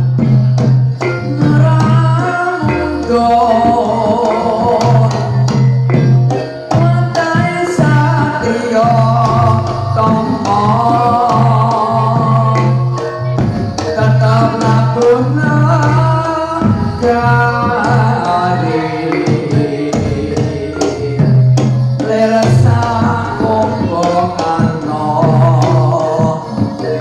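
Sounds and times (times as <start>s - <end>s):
gamelan ensemble playing: 0.0s - 27.0s
person singing: 0.0s - 27.0s.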